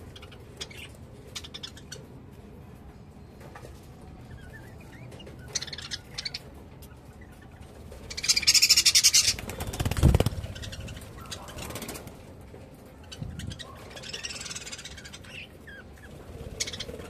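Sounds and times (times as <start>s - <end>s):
budgerigars chirping and chattering: 0.0s - 2.1s, 4.2s - 12.2s, 12.9s - 17.0s.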